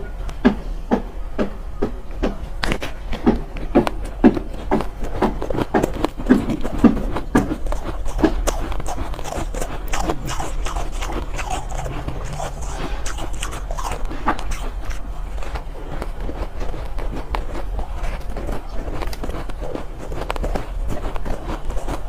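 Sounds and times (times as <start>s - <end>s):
low steady hum: 0.0s - 22.0s
chewing crunchy ice: 2.8s - 22.0s.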